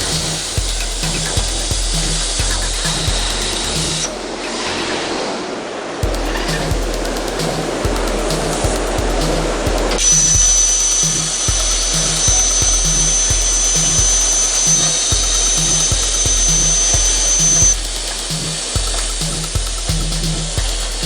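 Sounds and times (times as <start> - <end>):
background music with a beat: 0.0 - 4.4, 6.0 - 21.0
high steady whine: 0.0 - 21.0.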